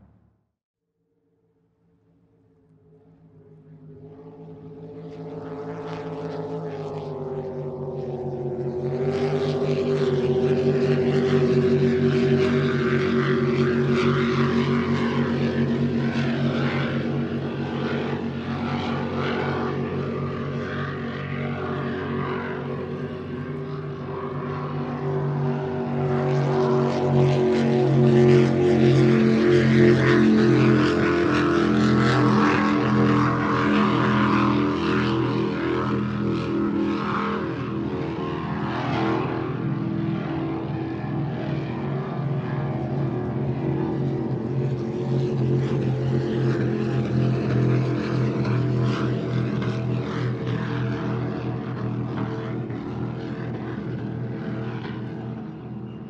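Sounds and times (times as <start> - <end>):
propeller plane engine droning: 0.0 - 0.4, 1.9 - 56.0.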